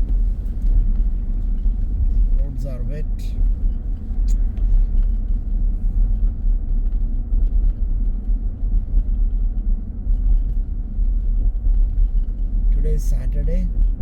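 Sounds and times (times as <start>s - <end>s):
car road noise on wet road: 0.0s - 14.0s.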